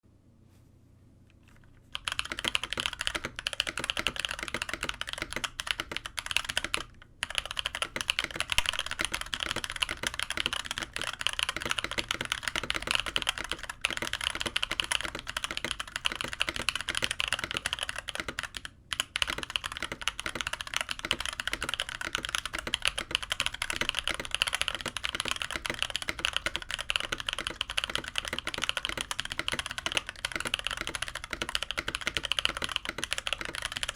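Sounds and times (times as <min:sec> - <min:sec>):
mechanical keyboard typing: 0:01.9 - 0:33.9.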